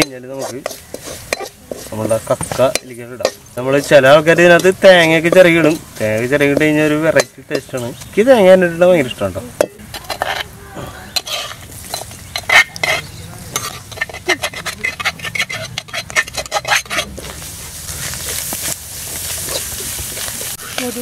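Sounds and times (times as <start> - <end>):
spoon scraping and clinking wok: 0.0 - 17.6, 18.2 - 21.0
clams sizzling in pan: 0.0 - 21.0.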